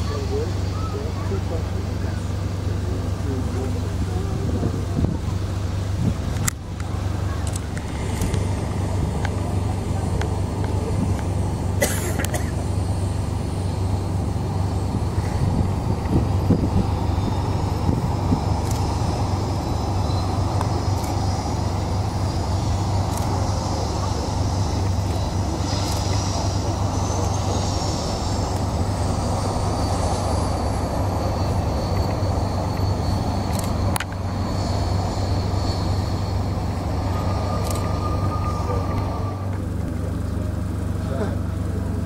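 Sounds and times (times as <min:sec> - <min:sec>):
jet engine roar: 0:00.0 - 0:42.0
jet engine whine rising: 0:00.0 - 0:42.0
low hum: 0:00.0 - 0:42.0.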